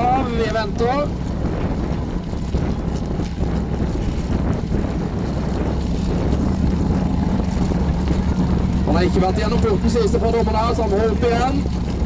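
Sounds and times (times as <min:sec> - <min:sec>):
buggy engine idling low: 0:00.0 - 0:12.0.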